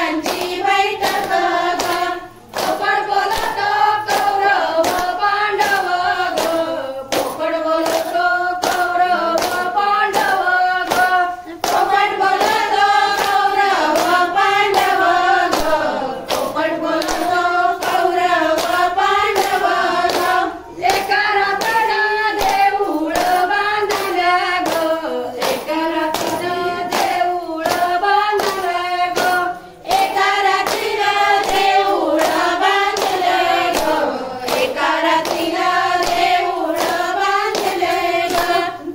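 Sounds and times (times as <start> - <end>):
group of women singing: 0.0 - 38.9
hand-clapping: 0.0 - 38.9.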